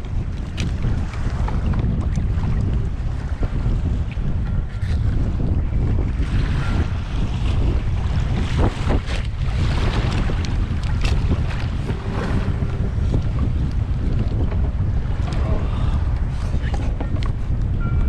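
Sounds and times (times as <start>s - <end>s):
open sea: 0.0s - 18.0s
wind buffeting microphone: 0.0s - 18.0s.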